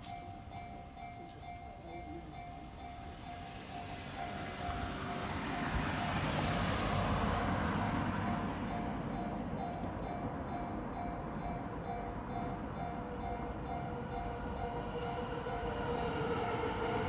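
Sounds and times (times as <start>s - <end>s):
level crossing warning bell: 0.0s - 17.0s
electric train rumble: 0.1s - 17.0s.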